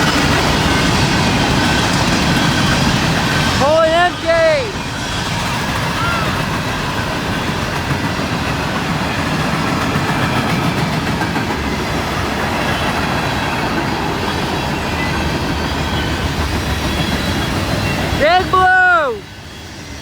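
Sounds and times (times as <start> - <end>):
freight train rolling past: 0.0 - 20.0
steel wheels clattering on rail: 0.0 - 20.0.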